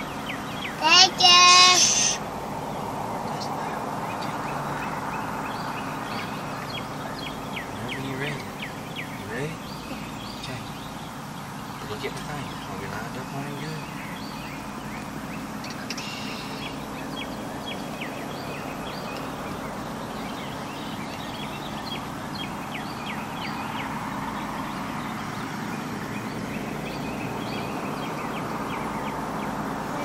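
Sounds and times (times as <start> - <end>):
quick bird chirps: 0.0 - 29.6.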